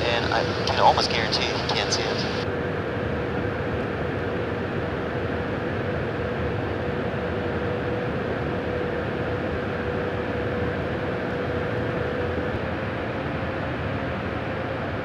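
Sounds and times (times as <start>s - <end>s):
engine and airflow rush: 0.0s - 15.0s.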